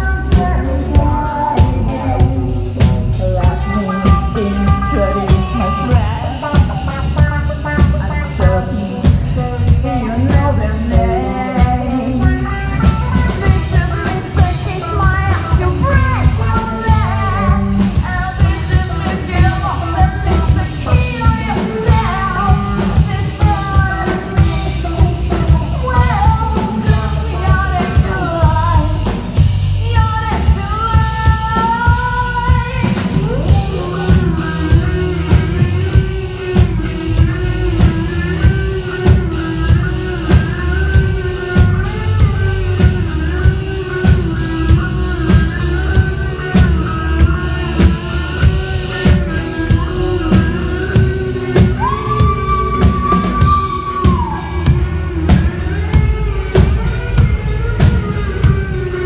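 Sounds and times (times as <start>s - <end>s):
drum kit beating: 0.0s - 59.0s
person singing: 0.0s - 59.0s
rock band playing live: 0.0s - 59.0s.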